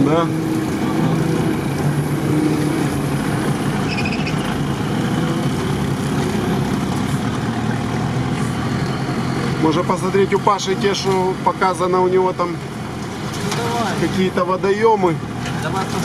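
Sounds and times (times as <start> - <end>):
vehicle engine running on rough track: 0.0 - 16.0.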